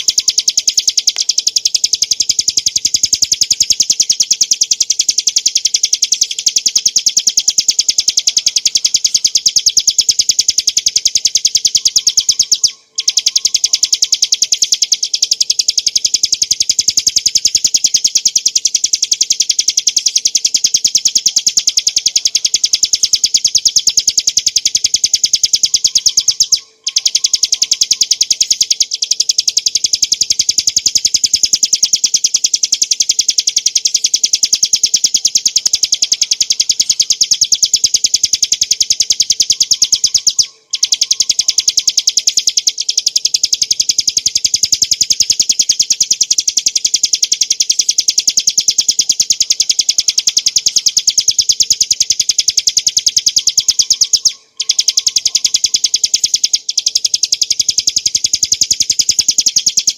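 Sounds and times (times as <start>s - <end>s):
bird singing rapid high notes: 0.0s - 59.9s.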